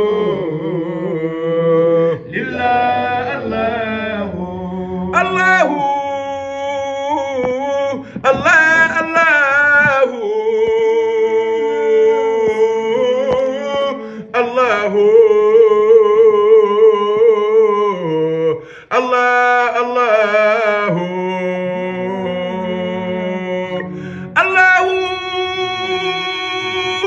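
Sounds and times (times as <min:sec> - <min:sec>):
man chanting melodic phrases: 0:00.0 - 0:27.0.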